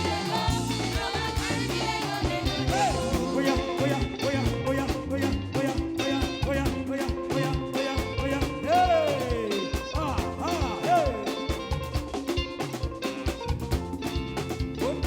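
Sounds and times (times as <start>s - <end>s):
upbeat gospel band music: 0.0s - 15.0s.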